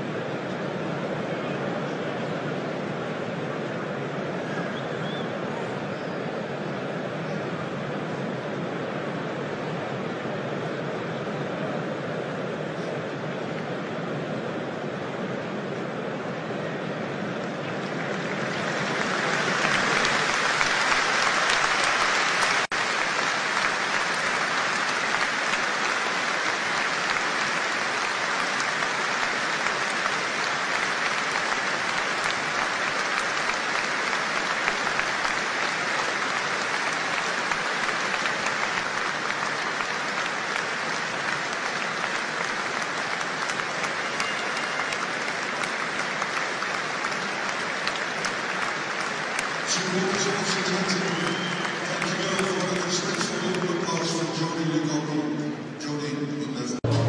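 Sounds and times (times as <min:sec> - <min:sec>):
stadium crowd applauding: 0:00.0 - 0:57.0.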